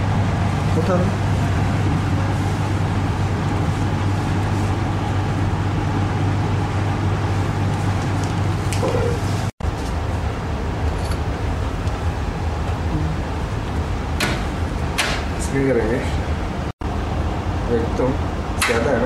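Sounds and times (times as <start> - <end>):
blower drone with low hum: 0.0 - 19.0.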